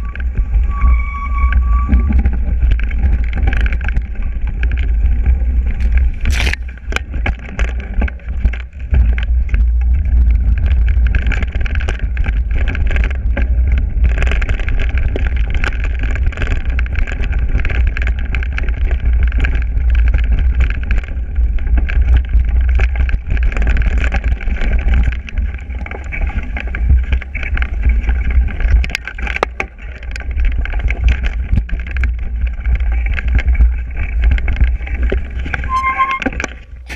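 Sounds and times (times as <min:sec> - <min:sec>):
bike knocking and rattling: 0:00.0 - 0:36.9
wind rumble on microphone: 0:00.0 - 0:36.9.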